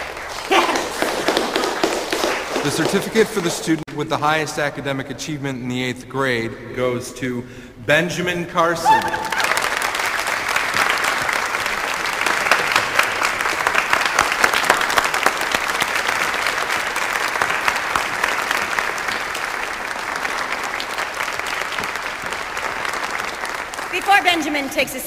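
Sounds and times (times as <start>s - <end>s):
audience applauding: 0.0s - 3.9s, 8.8s - 25.0s.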